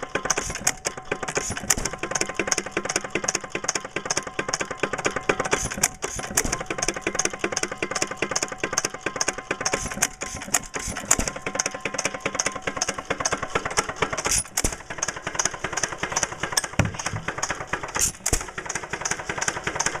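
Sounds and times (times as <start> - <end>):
small gasoline engine clattering: 0.0 - 20.0.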